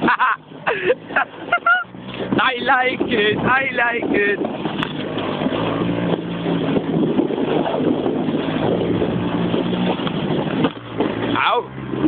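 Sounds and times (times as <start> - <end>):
moped engine running: 0.0 - 12.0
wind on microphone: 0.0 - 12.0.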